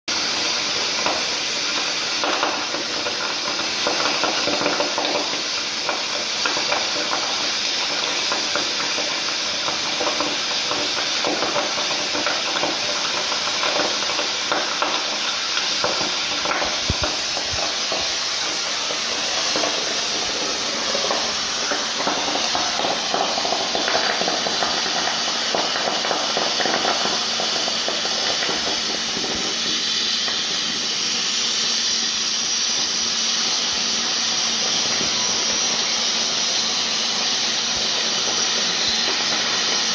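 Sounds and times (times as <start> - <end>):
cutting torch hissing: 0.1 - 39.9
molten metal crackling: 0.1 - 39.9.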